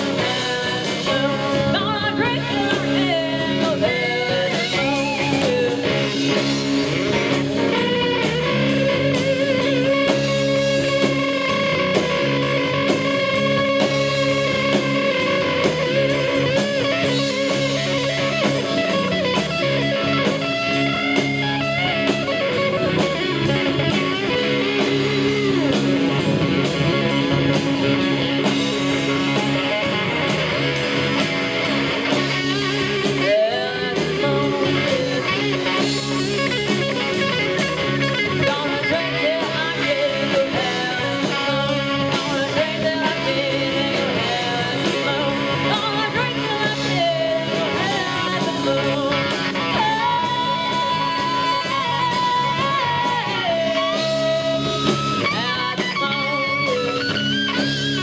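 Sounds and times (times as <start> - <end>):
bass guitar: 0.0 - 58.0
drums: 0.0 - 58.0
electric guitar solo: 0.0 - 58.0.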